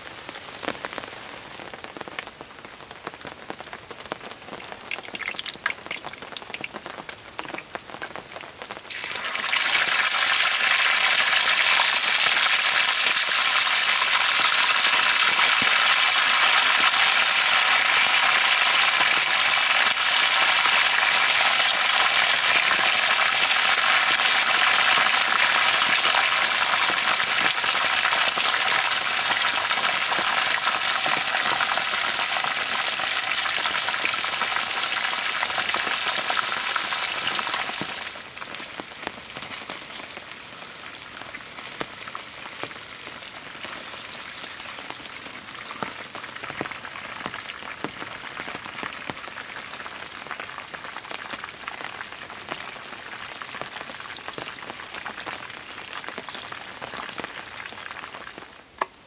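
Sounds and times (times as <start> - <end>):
chicken frying in hot oil: 0.0 - 58.9.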